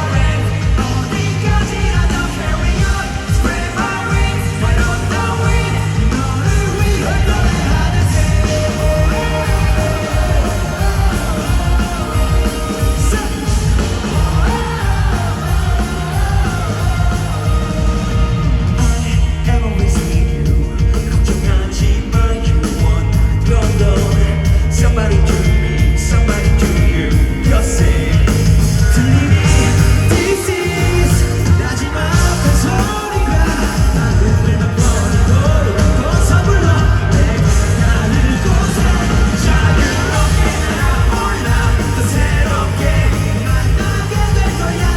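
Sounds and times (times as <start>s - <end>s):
bass guitar: 0.0s - 44.9s
drums: 0.0s - 44.9s
electric guitars: 0.0s - 44.9s
lead vocal singing: 0.0s - 44.9s
live rock band playing: 0.0s - 44.9s.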